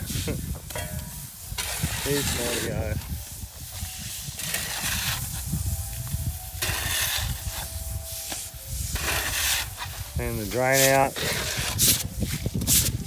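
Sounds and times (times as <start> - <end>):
hose spraying water on concrete: 0.0 - 13.0.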